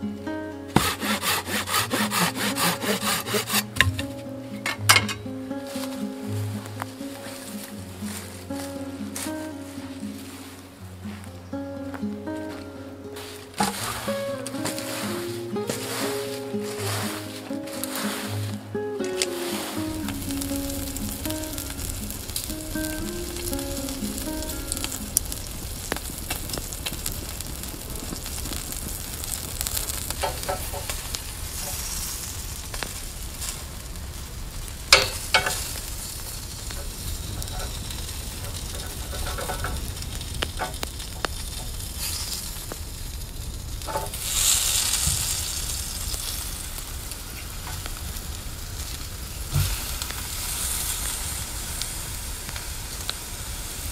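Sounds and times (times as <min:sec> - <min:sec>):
meat sizzling on grill: 0:00.8 - 0:04.0, 0:04.6 - 0:11.2, 0:12.5 - 0:53.9.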